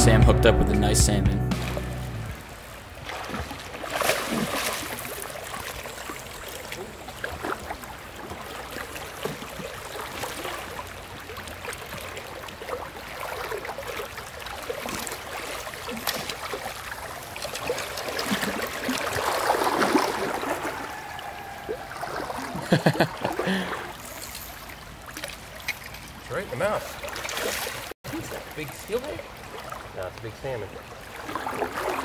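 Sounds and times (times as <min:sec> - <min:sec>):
river water gurgling around legs: 0:01.6 - 0:32.0.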